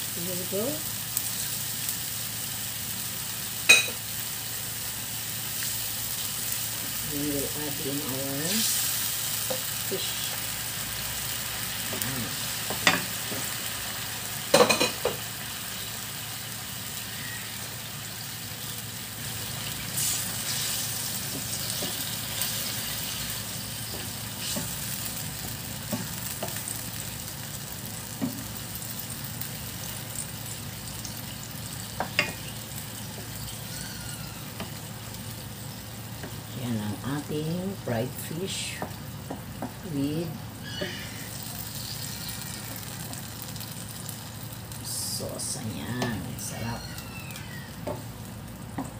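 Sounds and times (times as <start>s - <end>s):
sauce sizzling in frying pan: 0.0s - 48.9s.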